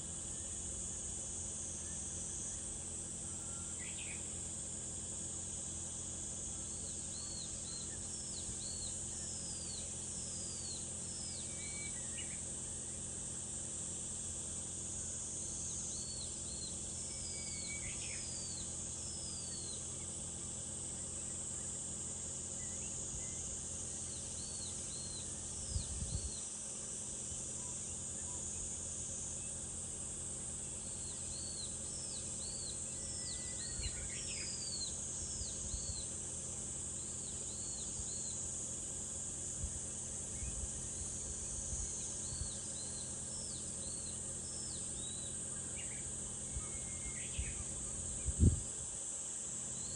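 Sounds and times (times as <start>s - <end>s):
cicada chorus drone: 0.0s - 49.9s.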